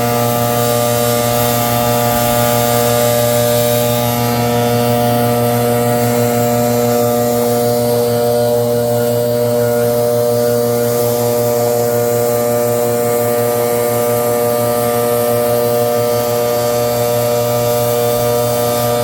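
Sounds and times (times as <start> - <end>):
leaf blower running: 0.0 - 19.0.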